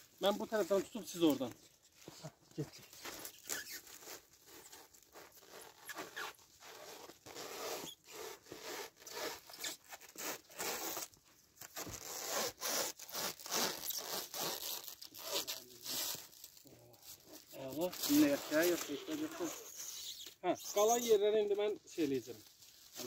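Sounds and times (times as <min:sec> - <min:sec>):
plastic stretch film rasping: 0:00.1 - 0:23.0.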